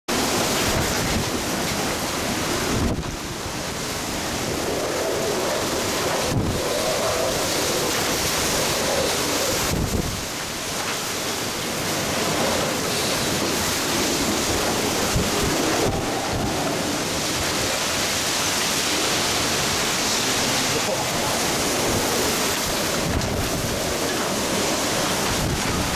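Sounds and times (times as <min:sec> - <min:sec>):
driving rain: 0:00.1 - 0:25.9
strong wind gusts: 0:00.1 - 0:25.9
wind buffeting microphone: 0:00.1 - 0:25.9.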